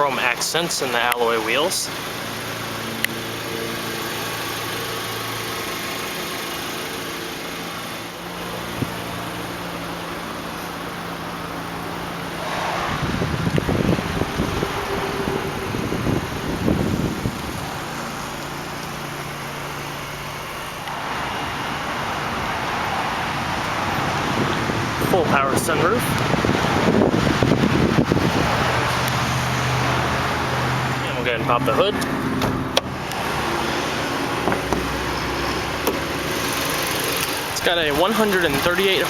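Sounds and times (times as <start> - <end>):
car engine idling: 0.0 - 39.0
loud irregular rumble: 0.0 - 39.0.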